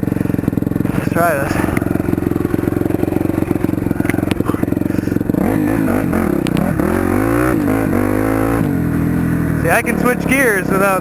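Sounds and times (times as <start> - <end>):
dirt bike engine idling and revving: 0.0 - 11.0.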